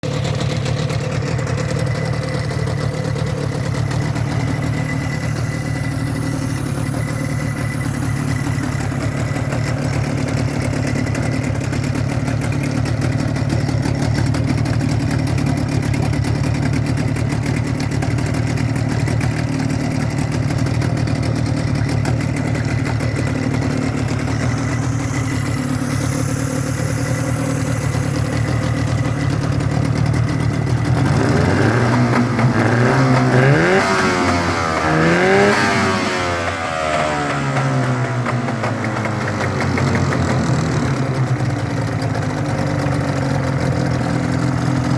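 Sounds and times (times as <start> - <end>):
outboard motor idling: 0.0 - 44.9.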